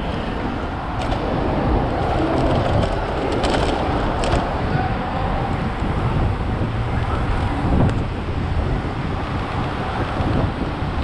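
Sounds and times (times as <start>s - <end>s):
road and traffic rumble: 0.0s - 11.0s
wind on microphone: 0.0s - 11.0s.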